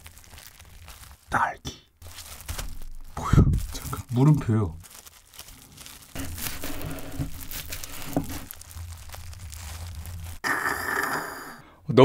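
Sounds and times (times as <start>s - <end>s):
cling film crinkling: 0.0s - 10.5s.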